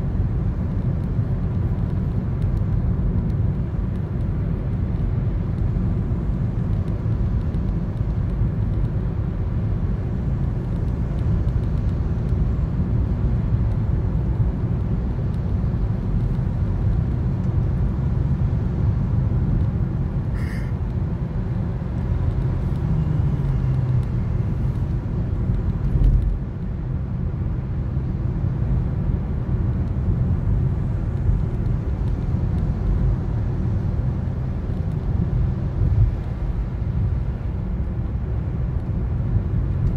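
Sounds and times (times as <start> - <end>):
car interior road and engine rumble: 0.0 - 39.9.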